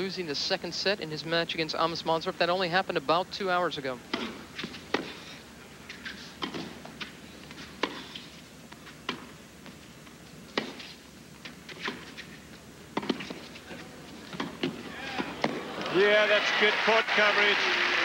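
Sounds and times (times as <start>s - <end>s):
low crowd and court hum: 0.0s - 18.0s.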